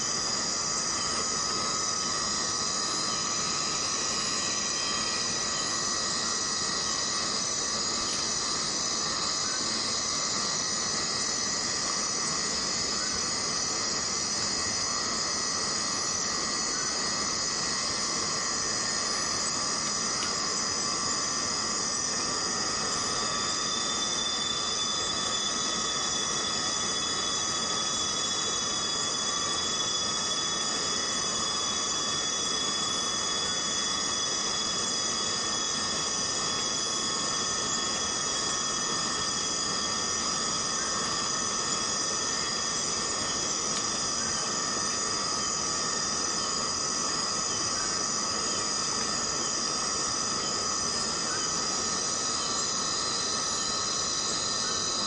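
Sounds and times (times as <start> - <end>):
cicadas droning: 0.0 - 55.0
high thin whine: 0.0 - 55.0.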